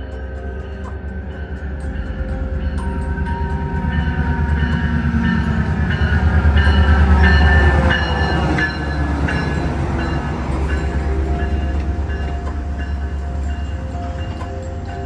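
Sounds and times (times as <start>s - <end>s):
train rumbling past: 0.0s - 15.0s
train wheel clicks: 0.0s - 15.0s.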